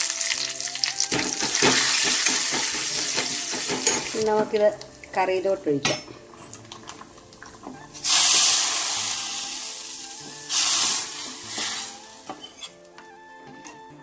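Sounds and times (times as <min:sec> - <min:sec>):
hot oil sizzling in liquid: 0:00.0 - 0:05.5, 0:06.8 - 0:12.6
faint background music: 0:00.0 - 0:14.0.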